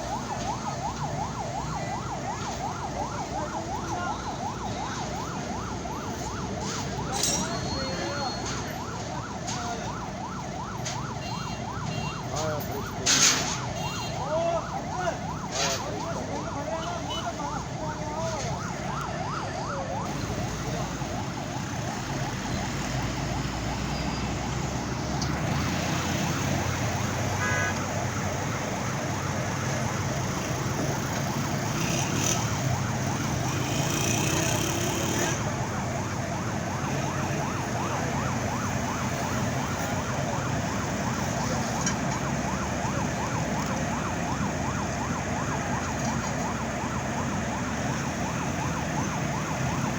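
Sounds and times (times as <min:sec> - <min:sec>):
heavy engine rumble: 0:00.0 - 0:19.3, 0:19.9 - 0:49.9
fast warbling siren: 0:00.0 - 0:49.9.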